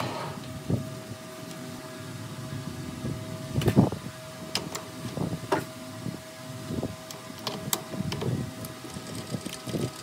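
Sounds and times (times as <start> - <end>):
shop machinery humming: 0.0 - 10.0.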